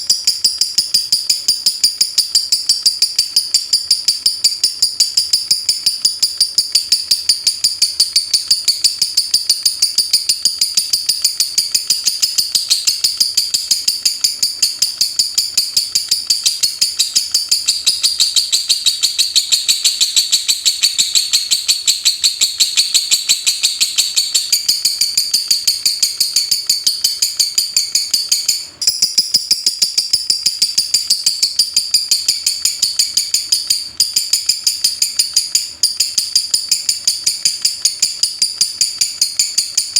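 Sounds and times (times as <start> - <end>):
lovebird rapid ticking call: 0.0 - 39.9.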